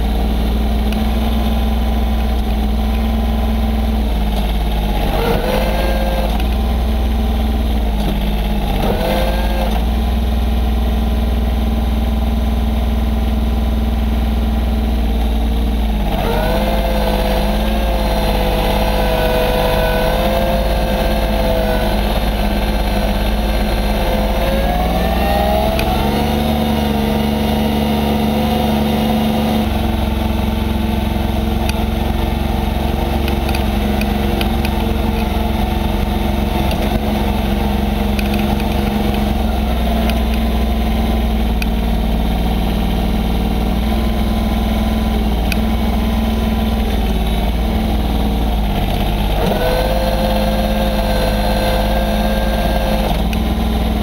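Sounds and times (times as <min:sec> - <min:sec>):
high whine: 0:00.0 - 0:54.0
tractor diesel engine running: 0:00.0 - 0:54.0.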